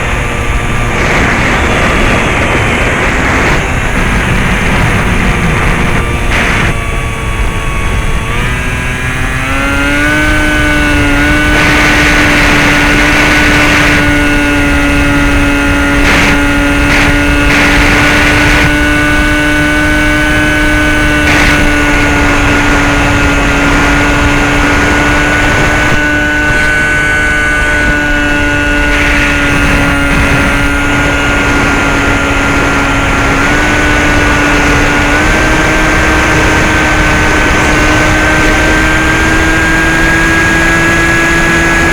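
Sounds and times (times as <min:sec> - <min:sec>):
electric motor and propeller whine: 0:00.0 - 0:41.9
rushing noise: 0:00.0 - 0:41.9.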